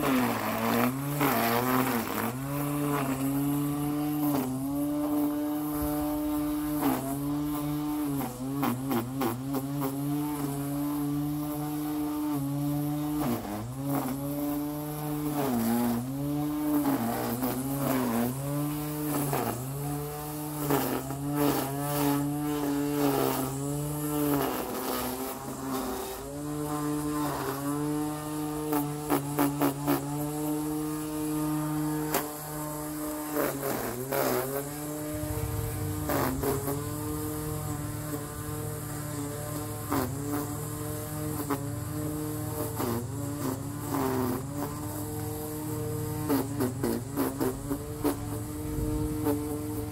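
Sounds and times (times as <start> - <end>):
grass trimmer whining: 0.0 - 49.9.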